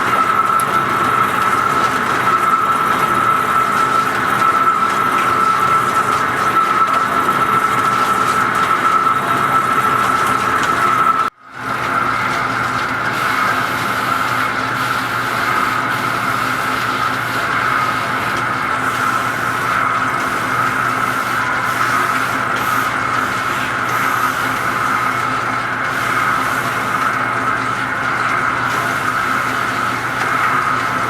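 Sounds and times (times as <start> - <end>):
lathe machining noise: 0.0 - 31.0.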